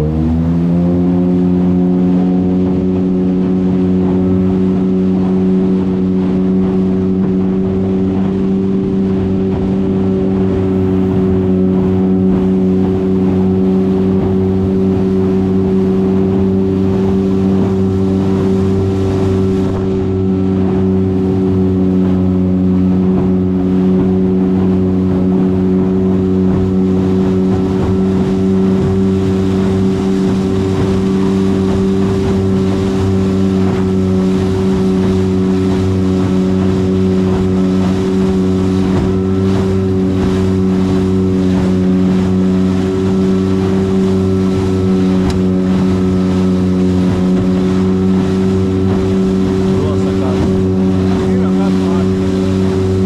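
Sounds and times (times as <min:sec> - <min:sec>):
motorboat engine running: 0:00.0 - 0:53.0
water rushing along hull: 0:00.0 - 0:53.0.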